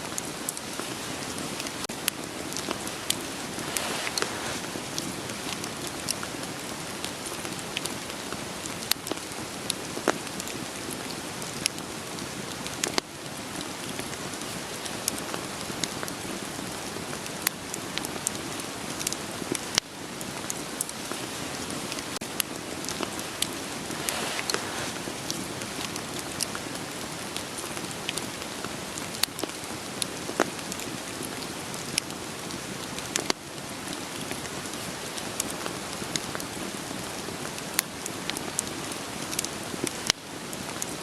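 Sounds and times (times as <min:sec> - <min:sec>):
steady rain falling: 0:00.0 - 0:41.0
wood fire crackling: 0:00.0 - 0:41.0.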